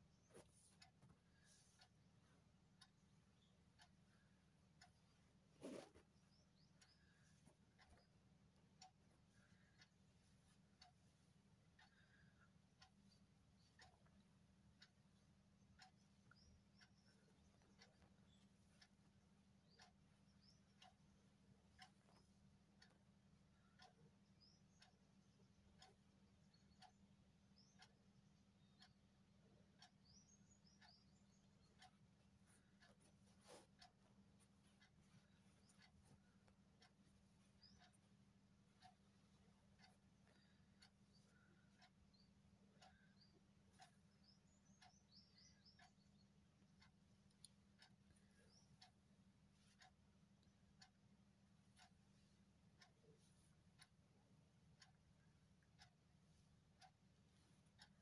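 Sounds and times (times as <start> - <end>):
clock ticking: 0.0 - 58.0
low steady hum: 0.0 - 58.0.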